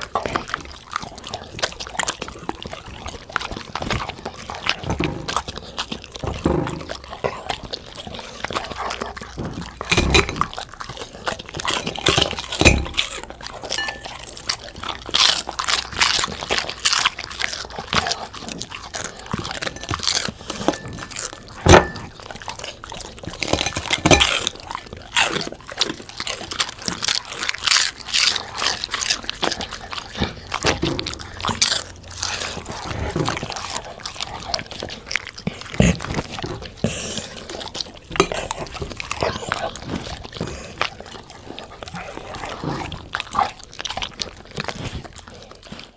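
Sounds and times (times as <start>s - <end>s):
dog crunching food: 0.0s - 45.9s.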